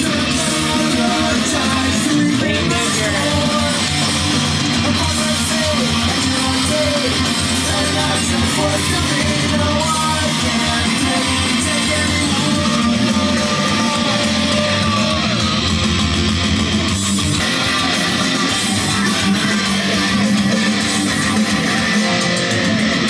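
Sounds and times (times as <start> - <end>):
rock music with guitar: 0.0 - 23.0.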